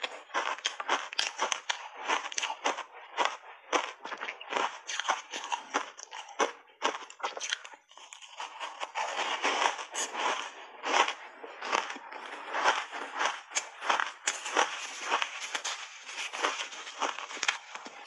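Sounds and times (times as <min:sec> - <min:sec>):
crunching and chewing ice: 0:00.0 - 0:18.0.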